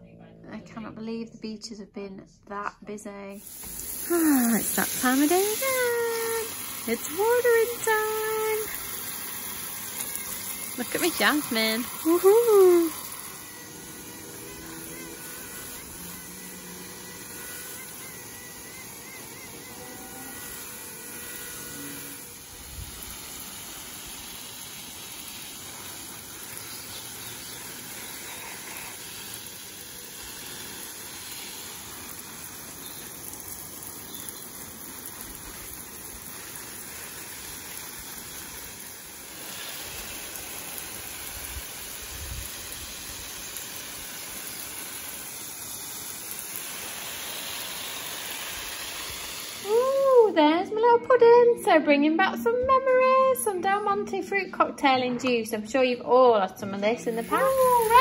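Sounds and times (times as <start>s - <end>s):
garden hose spraying water: 3.3s - 51.0s, 56.7s - 58.0s.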